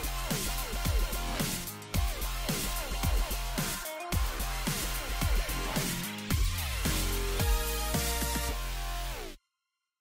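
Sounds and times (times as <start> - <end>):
music with beat and deep bass: 0.0 - 9.4.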